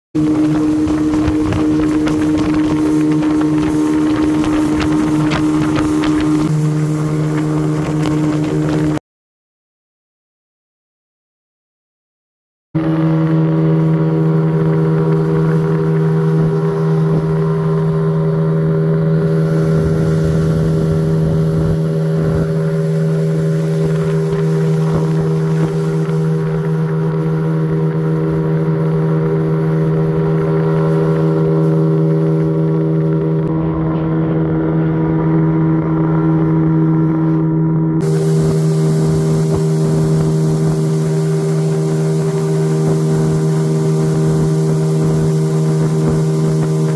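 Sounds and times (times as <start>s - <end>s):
outboard motor running steadily: 0.1s - 9.0s, 12.8s - 46.9s.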